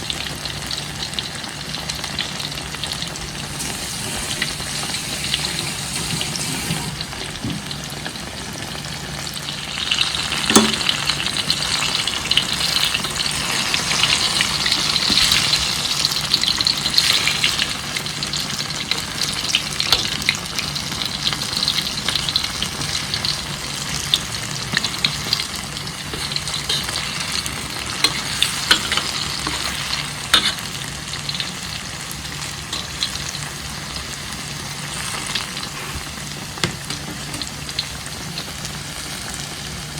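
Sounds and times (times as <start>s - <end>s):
frying in hot oil sizzle: 0.0s - 39.9s.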